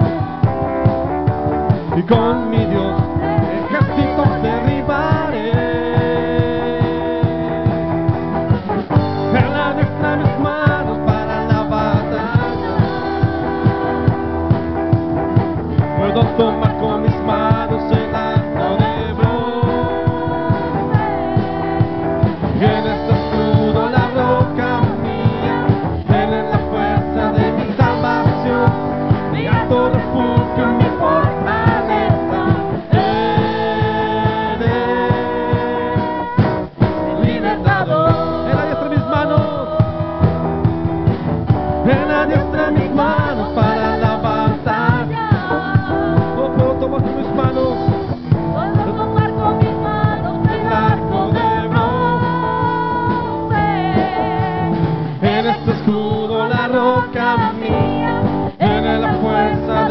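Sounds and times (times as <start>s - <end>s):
women singing: 0.0s - 7.6s, 9.3s - 14.9s, 15.8s - 40.7s, 41.8s - 47.0s, 48.4s - 59.9s
worship band playing: 0.0s - 59.9s.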